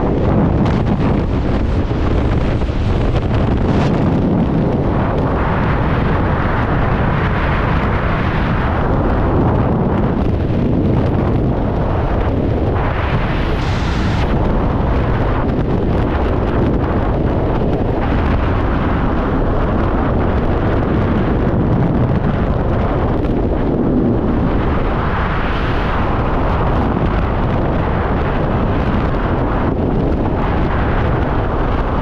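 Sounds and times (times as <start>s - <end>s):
wind roaring past microphone: 0.0s - 32.0s.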